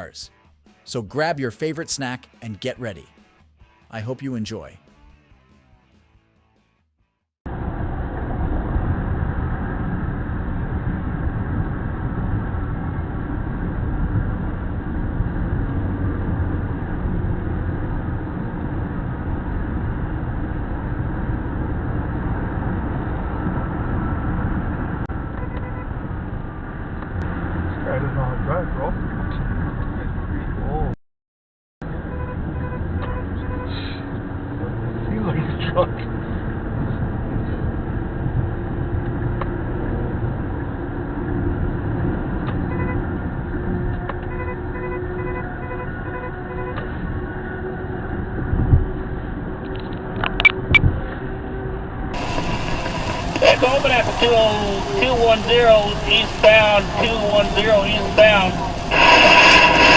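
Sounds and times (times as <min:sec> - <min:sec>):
vehicle road and engine noise: 0:07.5 - 0:31.0, 0:31.8 - 0:59.9.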